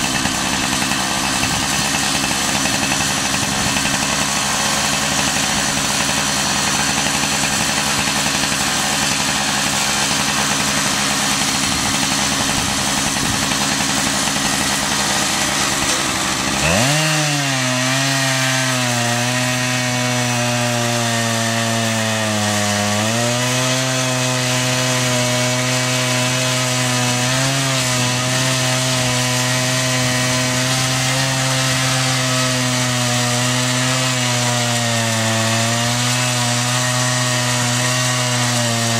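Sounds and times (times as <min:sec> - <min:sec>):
chainsaw cutting through log: 0:00.0 - 0:38.9
chainsaw idling and revving: 0:00.0 - 0:38.9.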